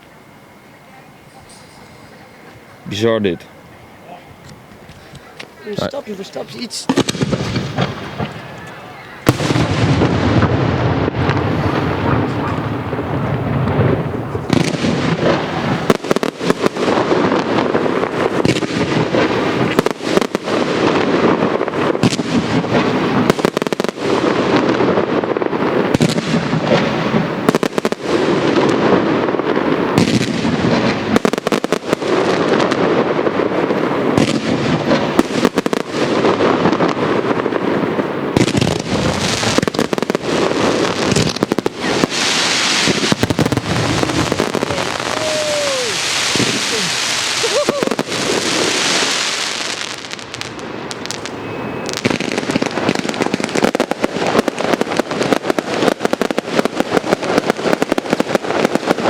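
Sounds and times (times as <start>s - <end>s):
fireworks bursts and crackle: 0.0s - 59.0s
sharp firework bangs: 6.8s - 59.0s.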